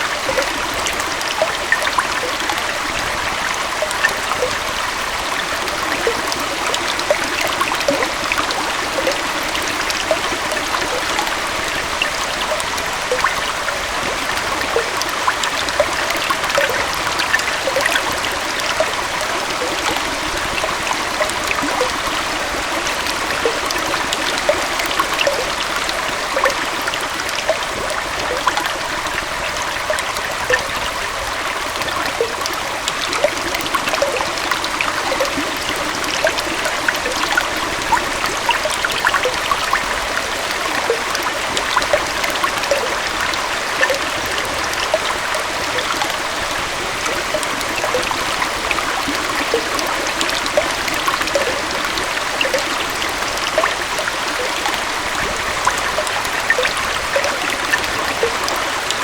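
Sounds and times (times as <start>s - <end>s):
waterfall and stream flowing: 0.0s - 59.0s.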